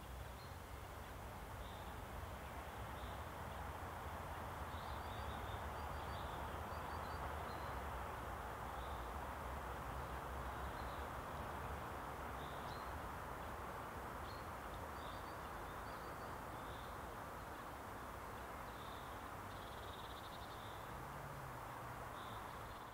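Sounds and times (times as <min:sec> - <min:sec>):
steady outdoor background hum: 0:00.0 - 0:22.9.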